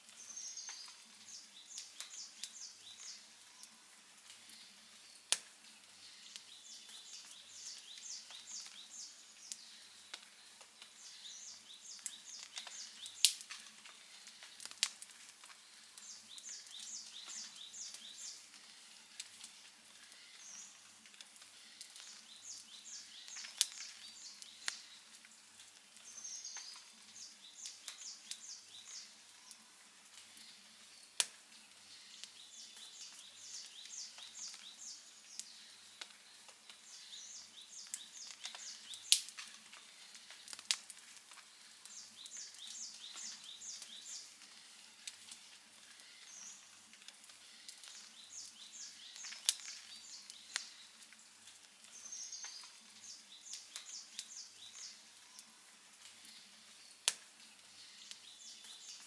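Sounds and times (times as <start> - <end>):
songbird chirping: 0.0 - 59.0
wood fire crackling: 0.0 - 59.0.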